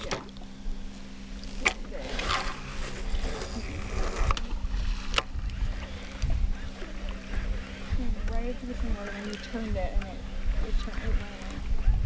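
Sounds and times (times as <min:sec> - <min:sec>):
steady low hum: 0:00.0 - 0:12.0
wind buffeting microphone: 0:01.5 - 0:12.0.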